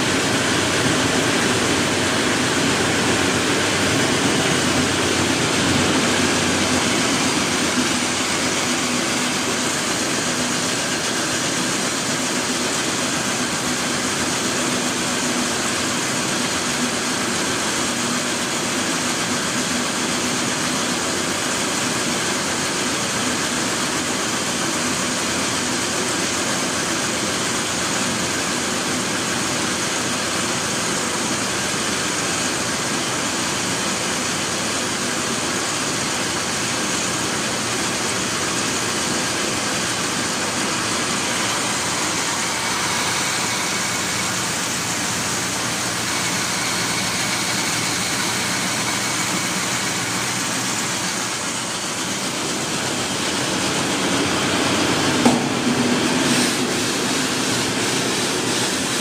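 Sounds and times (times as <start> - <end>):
chopper baler machine running: 0.0 - 59.0.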